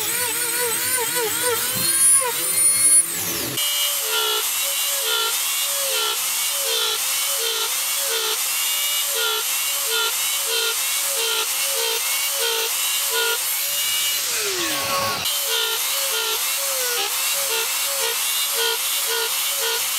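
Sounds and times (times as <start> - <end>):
rotary tool whining into wood: 0.0 - 19.9.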